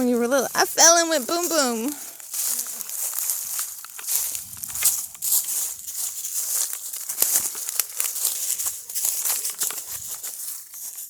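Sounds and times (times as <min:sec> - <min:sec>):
crackling rustle with crunches: 0:00.0 - 0:11.0.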